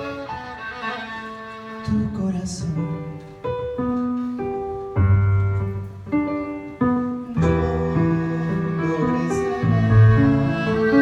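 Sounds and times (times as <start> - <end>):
violin: 0.0 - 4.9, 6.7 - 11.0.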